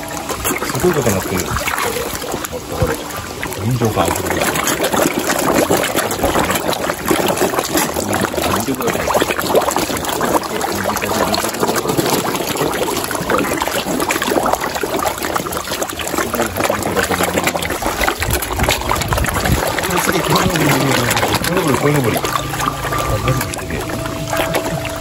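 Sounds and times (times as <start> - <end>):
carp splashing and gulping: 0.0 - 25.0.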